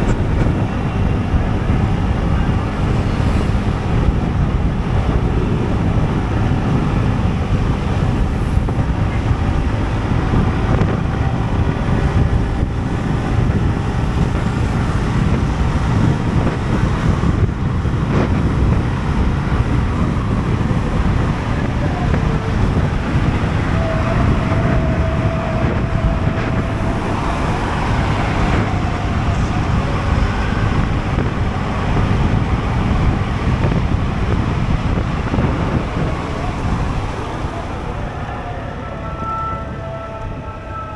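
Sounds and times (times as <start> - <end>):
road traffic: 0.0 - 40.9
wind rushing over microphone: 0.0 - 40.9.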